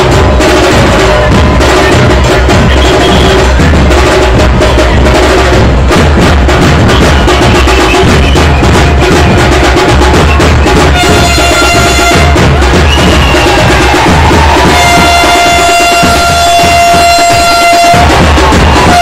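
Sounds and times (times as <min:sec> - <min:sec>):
horn sounding: 0:00.0 - 0:05.6, 0:06.8 - 0:19.0
drums playing: 0:00.0 - 0:19.0.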